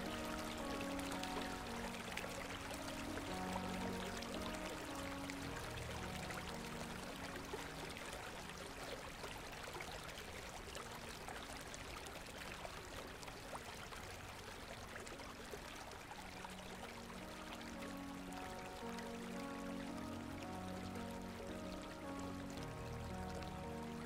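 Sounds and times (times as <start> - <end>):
river water rushing: 0.0 - 24.0
soft background music: 0.0 - 24.0.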